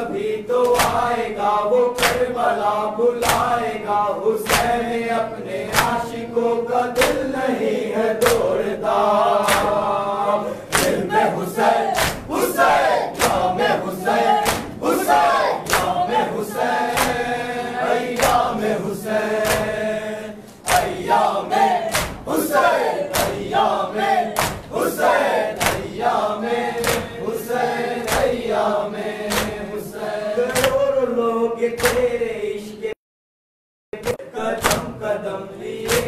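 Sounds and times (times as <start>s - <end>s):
men chanting a lament in chorus: 0.0s - 33.0s, 34.0s - 36.0s.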